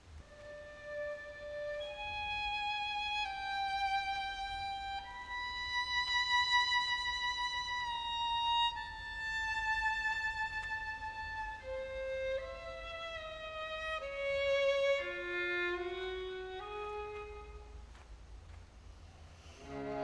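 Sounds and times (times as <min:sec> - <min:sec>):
solo violin slow melody: 0:00.0 - 0:18.2, 0:19.4 - 0:20.0.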